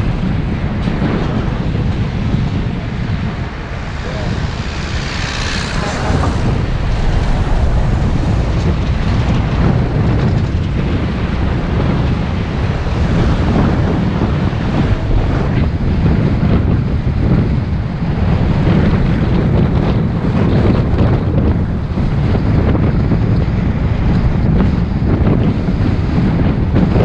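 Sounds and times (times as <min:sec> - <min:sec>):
bus and road rumble: 0:00.0 - 0:27.0
wind buffeting microphone: 0:00.0 - 0:27.0.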